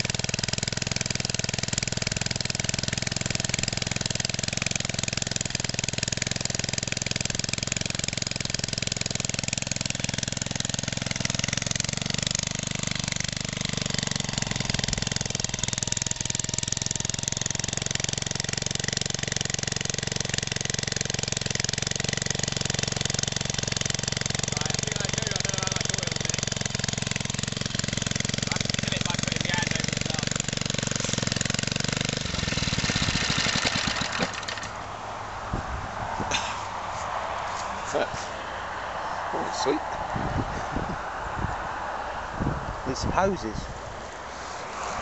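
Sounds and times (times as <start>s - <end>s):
small engine running steadily: 0.0s - 45.0s.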